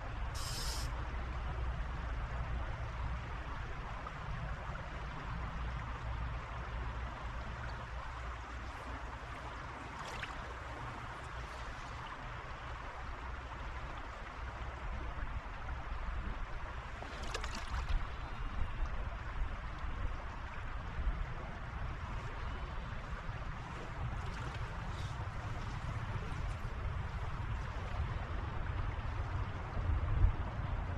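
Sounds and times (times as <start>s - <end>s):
stream water rushing: 0.0s - 30.9s.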